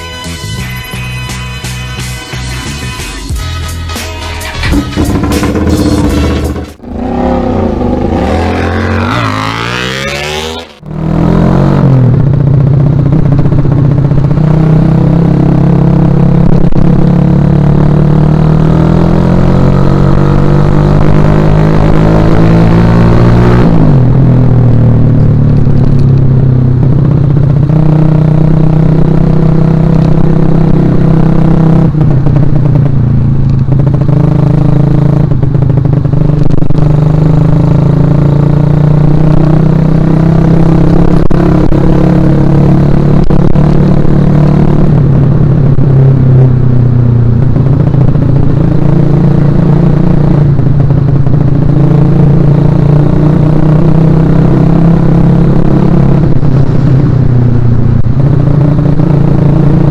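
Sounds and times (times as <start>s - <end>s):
motorcycle engine revving: 4.4s - 59.9s.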